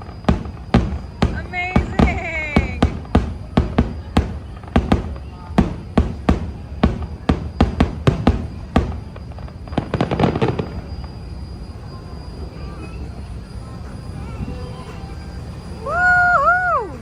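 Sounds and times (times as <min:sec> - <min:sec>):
fireworks banging: 0:00.0 - 0:16.2
fireworks crackling: 0:00.0 - 0:17.0.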